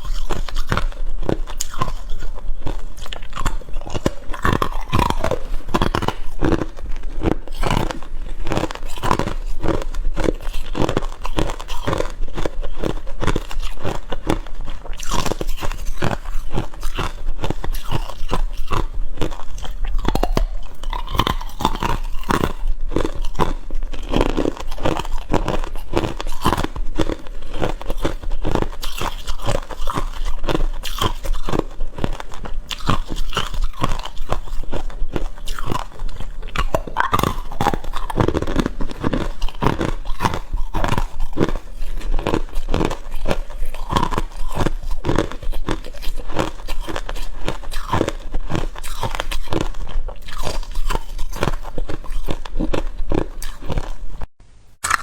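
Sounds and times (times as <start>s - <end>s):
ice crunching while chewed: 0.0s - 55.0s.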